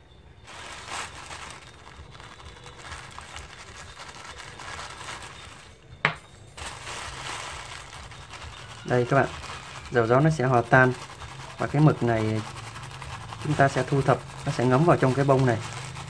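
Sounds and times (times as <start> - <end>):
plastic bag crinkling and rustling: 0.4 - 5.9, 6.5 - 16.0.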